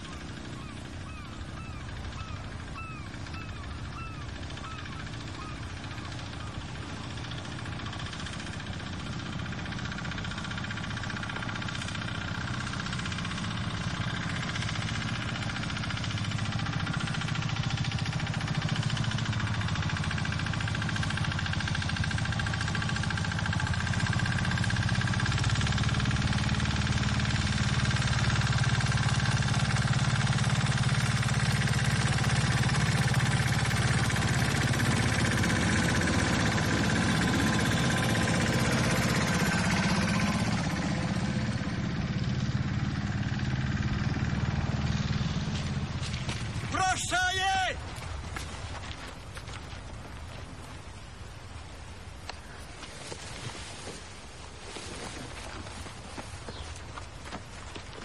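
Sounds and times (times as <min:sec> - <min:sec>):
small tractor engine chugging: 0:00.0 - 0:53.3, 0:54.8 - 0:58.0.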